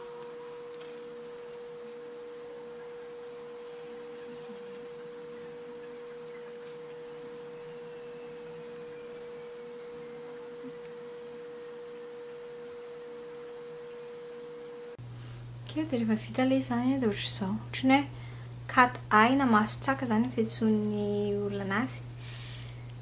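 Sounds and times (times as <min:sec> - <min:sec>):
steady pure tone: 0:00.0 - 0:23.0.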